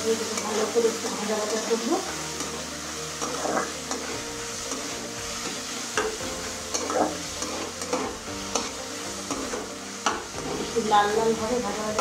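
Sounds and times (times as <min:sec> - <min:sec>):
paste sizzling in hot oil: 0:00.0 - 0:12.0
spatula scraping pan: 0:00.1 - 0:12.0.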